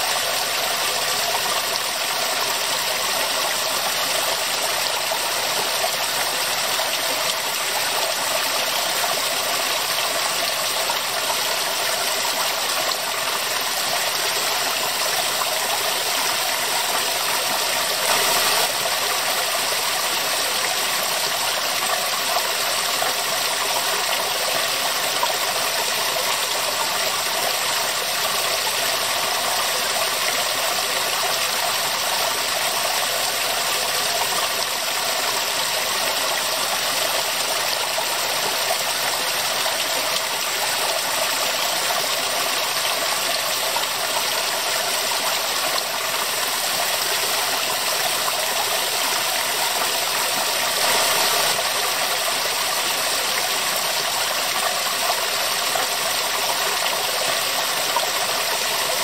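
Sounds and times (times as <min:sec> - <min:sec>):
waterfall splashing into pond: 0:00.0 - 0:59.0.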